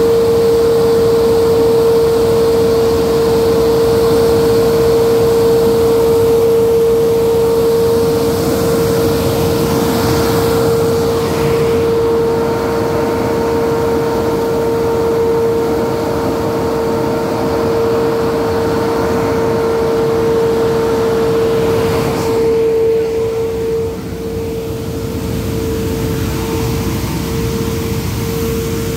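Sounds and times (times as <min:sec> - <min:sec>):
nut sweeper running: 0:00.0 - 0:28.9.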